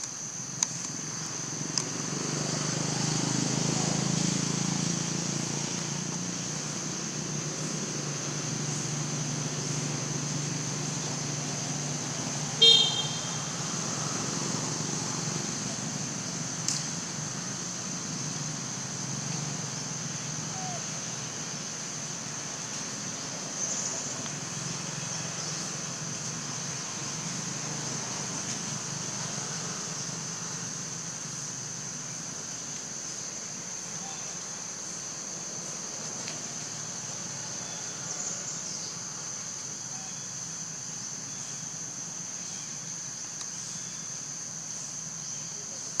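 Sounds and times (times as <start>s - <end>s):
high-pitched insect drone: 6.4s - 45.8s
high-pitched hiss: 6.4s - 46.0s.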